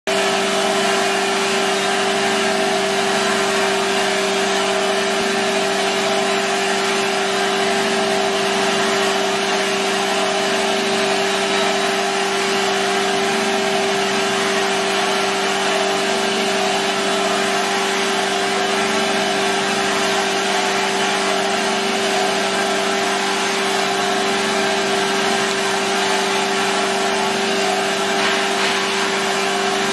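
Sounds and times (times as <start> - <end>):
belt polishing machine grinding metal: 0.1 - 29.9.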